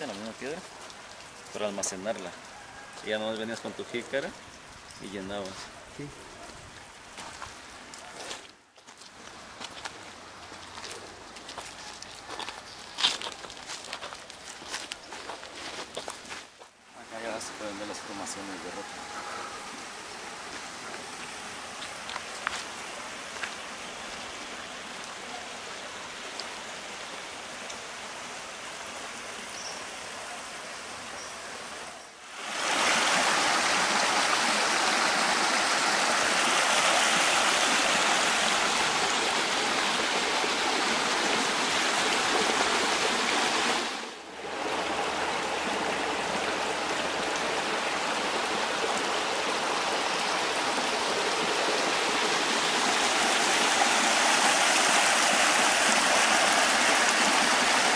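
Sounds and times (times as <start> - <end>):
stream running over rocks: 0.0 - 57.9.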